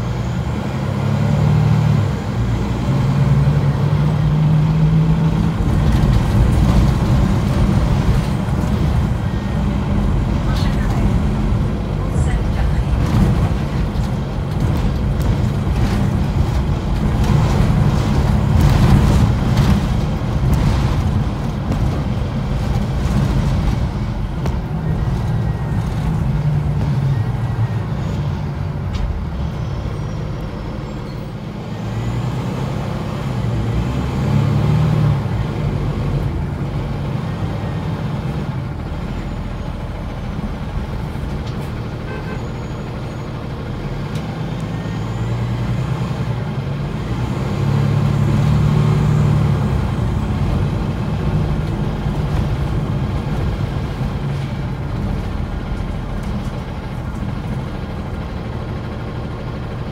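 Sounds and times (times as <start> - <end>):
bus body rattles: 0.0 - 59.9
bus engine drone from inside: 0.0 - 59.9.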